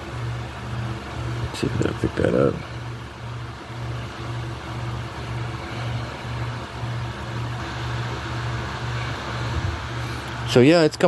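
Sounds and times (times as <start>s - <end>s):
pulsing low machine hum: 0.0s - 10.9s.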